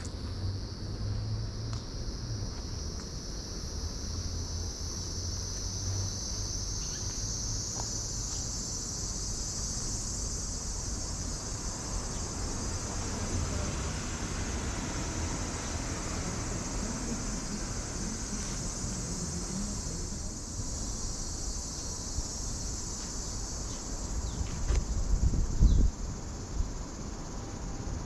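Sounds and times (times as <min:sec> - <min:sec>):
cicadas chorus: 0:00.0 - 0:28.0.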